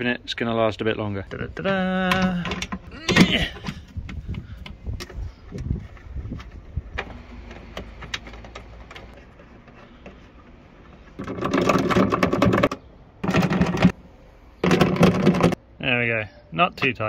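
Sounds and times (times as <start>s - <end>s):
handling clicks and knocks: 1.2s - 14.0s, 14.6s - 15.6s.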